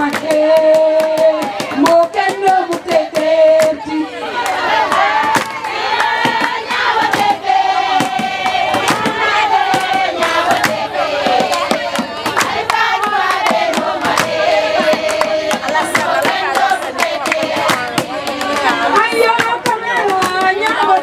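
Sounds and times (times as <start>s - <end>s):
hand-clapping: 0.0s - 3.8s, 4.4s - 7.4s, 8.0s - 21.0s
women singing together: 0.0s - 21.0s.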